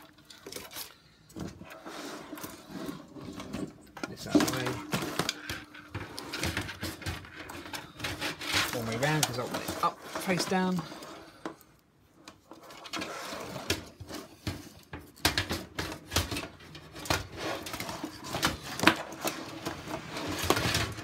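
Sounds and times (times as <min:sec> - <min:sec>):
cables rustling with knocks and clicks: 0:00.0 - 0:21.0.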